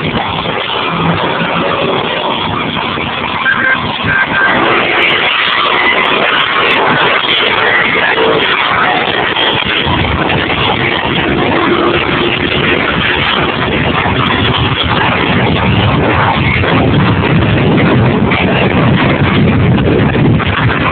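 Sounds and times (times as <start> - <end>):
highway road noise: 0.0 - 20.9
wind rushing: 0.0 - 20.9.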